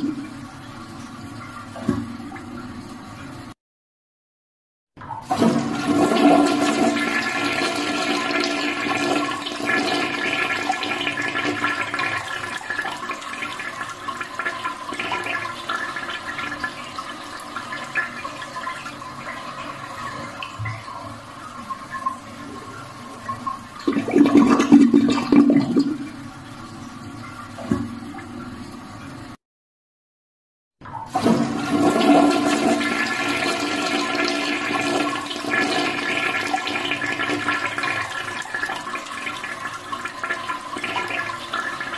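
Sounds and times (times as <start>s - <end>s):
toilet flushing: 0.0s - 3.6s, 5.0s - 29.4s, 30.8s - 41.9s.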